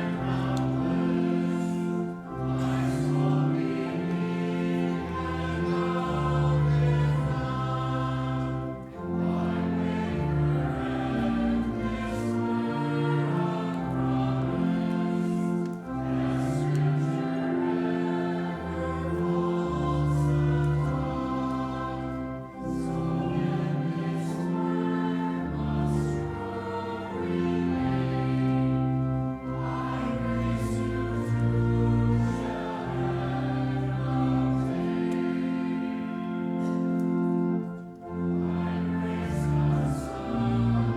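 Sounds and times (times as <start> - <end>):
congregation singing a hymn: 0.0 - 40.9
pipe organ chords: 0.0 - 40.9.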